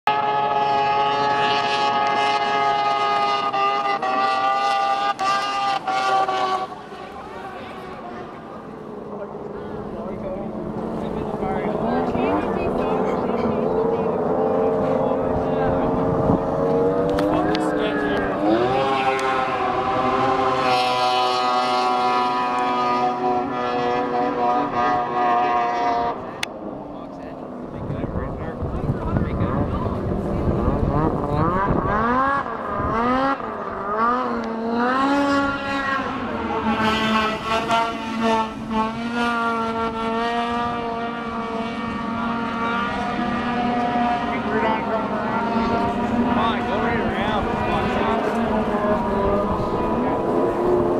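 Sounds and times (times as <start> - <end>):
snowmobile engine whining: 0.1 - 50.9.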